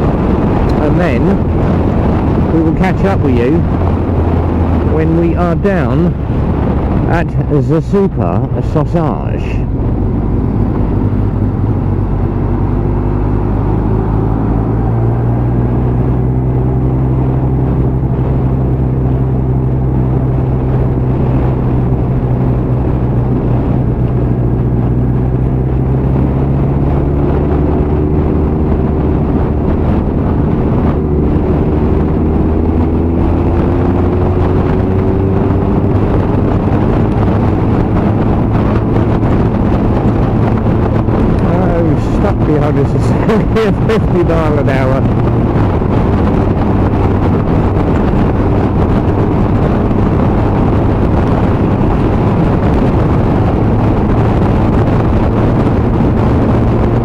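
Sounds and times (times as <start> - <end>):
wind rushing past: 0.0 - 57.0.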